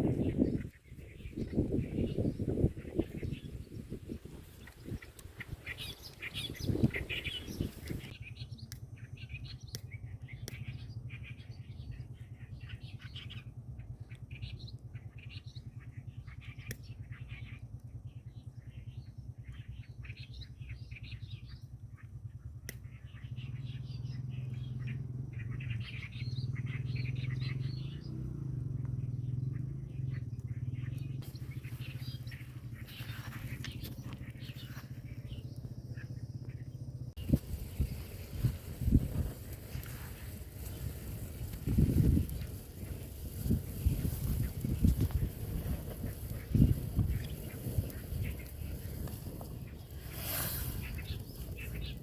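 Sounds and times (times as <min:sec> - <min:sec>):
small birds chirping: 0:00.0 - 0:52.0
steady low rumble: 0:00.0 - 0:52.0.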